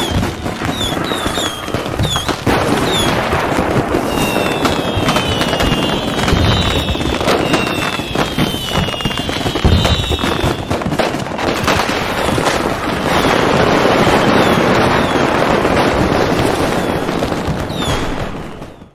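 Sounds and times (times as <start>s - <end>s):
fireworks bangs and pops: 0.0s - 18.9s
fireworks crackling: 0.0s - 18.9s
whistling rockets: 0.0s - 18.9s.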